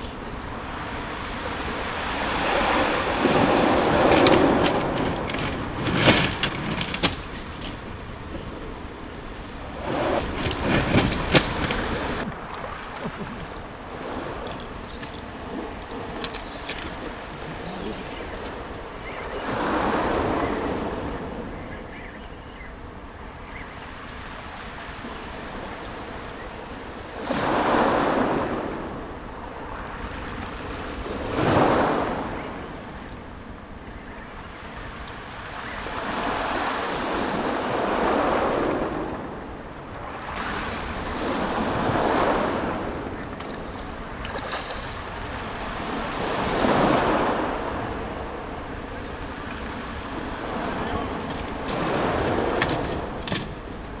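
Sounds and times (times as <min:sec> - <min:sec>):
waves breaking on shingle beach: 0:00.0 - 0:22.0, 0:22.6 - 0:54.0.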